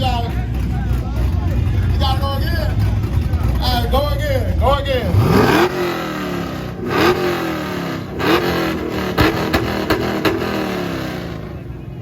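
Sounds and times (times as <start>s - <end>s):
car engine revving: 0.0s - 12.0s
exhaust cracks: 0.0s - 12.0s.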